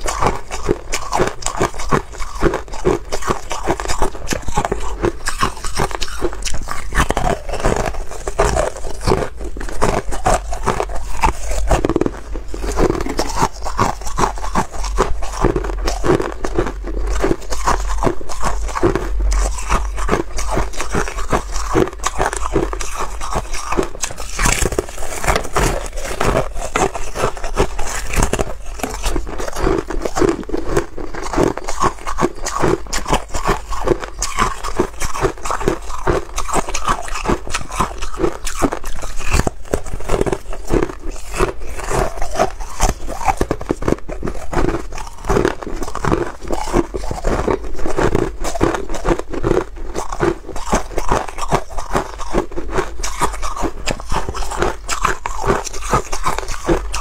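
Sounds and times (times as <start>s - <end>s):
ice being bitten and chewed: 0.0s - 57.0s.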